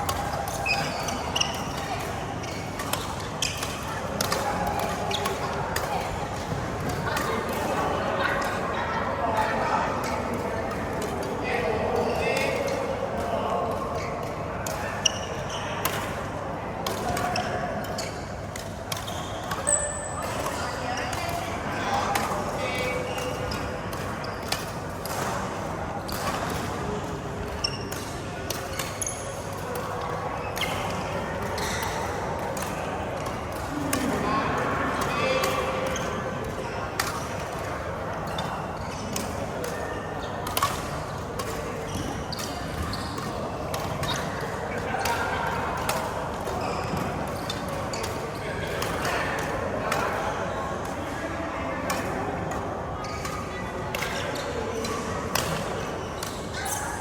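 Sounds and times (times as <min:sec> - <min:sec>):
shoes squeaking on court floor: 0:00.0 - 0:08.5, 0:09.5 - 0:16.2, 0:16.9 - 0:51.1, 0:51.9 - 0:57.0
rackets hitting shuttlecock: 0:00.0 - 0:08.7, 0:09.4 - 0:57.0
murmur of voices: 0:00.0 - 0:57.0.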